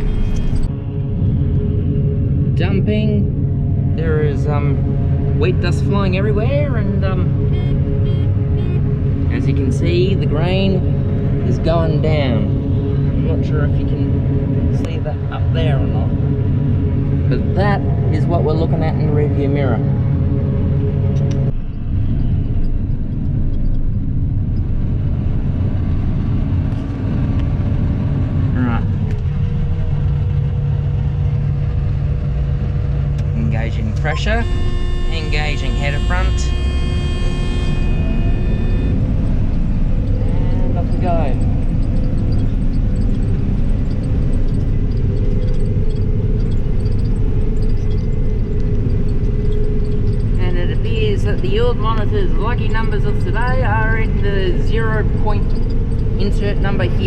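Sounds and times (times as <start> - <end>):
combine harvester rumbling: 0.0 - 57.0.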